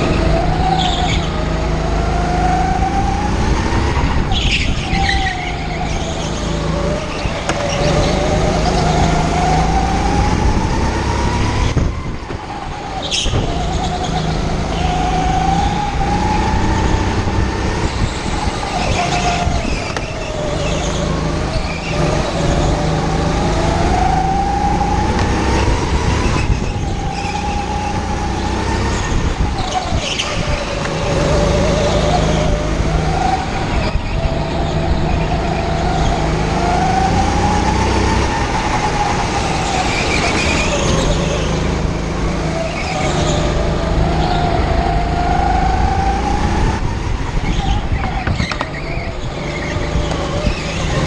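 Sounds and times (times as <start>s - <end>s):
go-kart motor racing: 0.0s - 51.0s.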